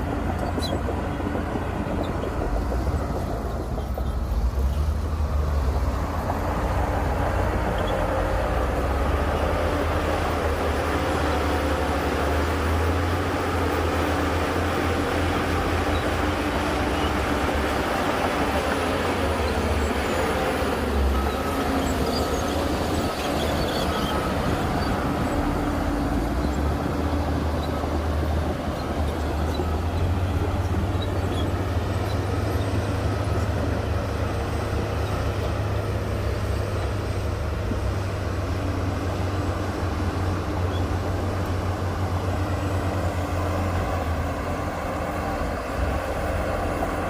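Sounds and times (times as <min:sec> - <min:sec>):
diesel machinery engine rumble: 0:00.0 - 0:47.0.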